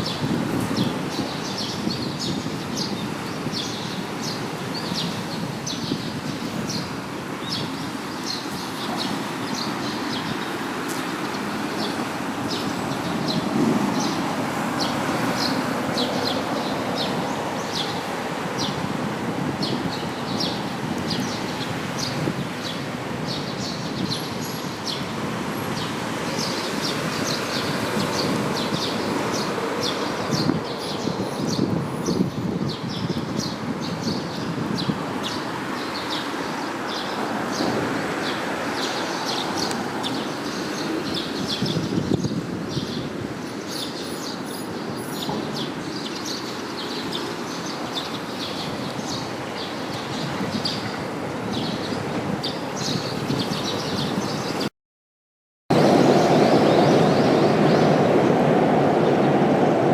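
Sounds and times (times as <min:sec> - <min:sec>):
wind-like rushing noise: 0:00.0 - 0:54.7, 0:55.7 - 0:59.9.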